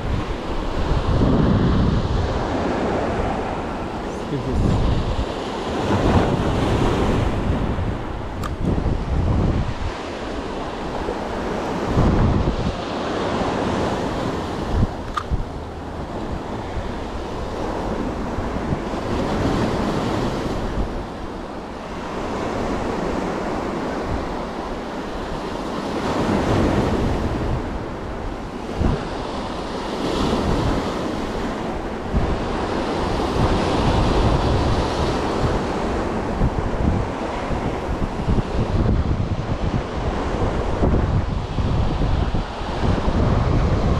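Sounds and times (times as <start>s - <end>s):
sea waves washing on shore: 0.0s - 43.9s
wind buffeting microphone: 0.0s - 43.9s.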